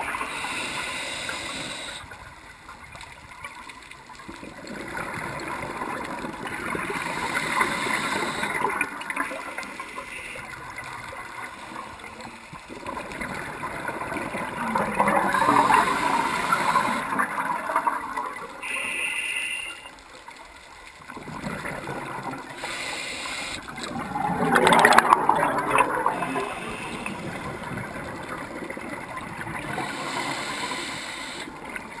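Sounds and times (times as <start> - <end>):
underwater bubbles gurgling: 0.0 - 32.0.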